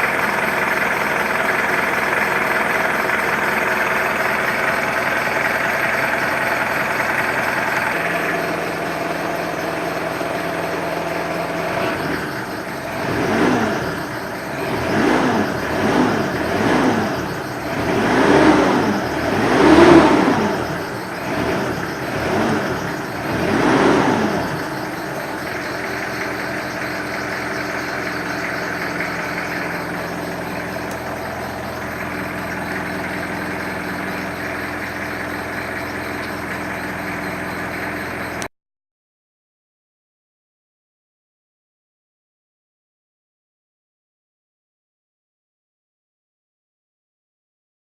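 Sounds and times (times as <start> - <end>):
diesel engine revving and idling: 0.0 - 38.5.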